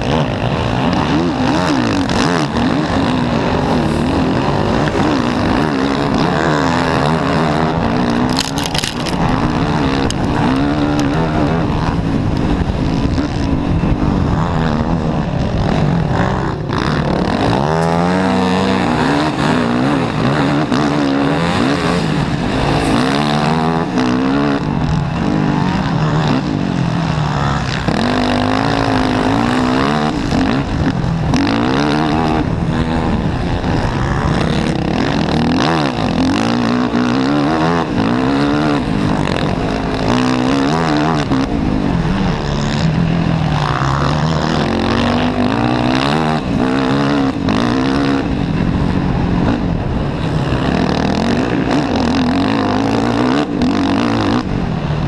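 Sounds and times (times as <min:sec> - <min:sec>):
quad engine revving: 0:00.0 - 0:55.0.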